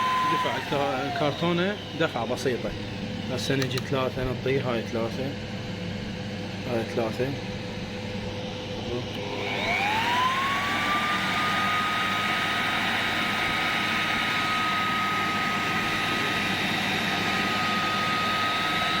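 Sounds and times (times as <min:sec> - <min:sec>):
air blower motor whine: 0:00.0 - 0:19.0.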